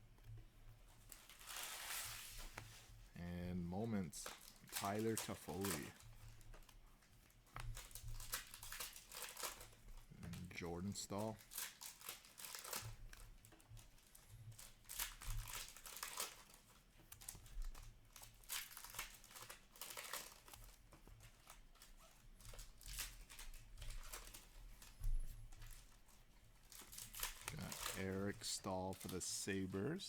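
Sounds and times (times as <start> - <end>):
card pack wrappers crinkling: 3.8 - 6.7, 7.7 - 13.2, 14.0 - 30.0.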